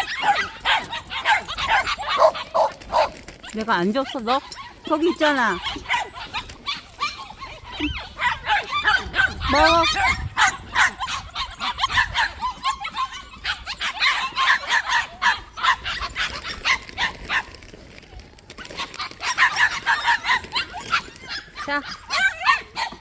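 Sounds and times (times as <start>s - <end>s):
young dogs barking and yipping: 0.0s - 23.0s.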